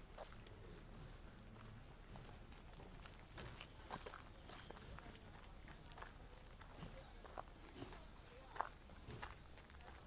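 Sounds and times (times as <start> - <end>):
footsteps on paved path: 0.0 - 10.0.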